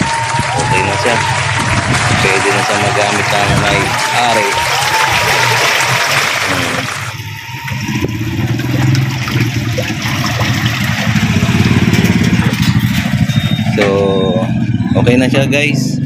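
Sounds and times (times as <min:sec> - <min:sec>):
washing machine spinning: 0:00.0 - 0:14.9.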